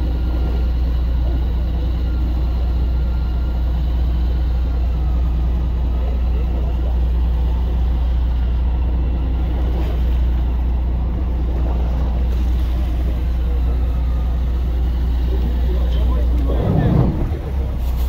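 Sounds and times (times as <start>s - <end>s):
boat engine droning: 0.0s - 18.0s
water: 0.0s - 18.0s
wind: 0.0s - 18.0s.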